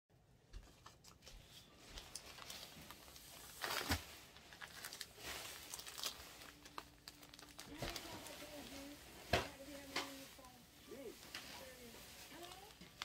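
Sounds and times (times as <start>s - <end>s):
plastic bag rustling: 1.1s - 13.0s.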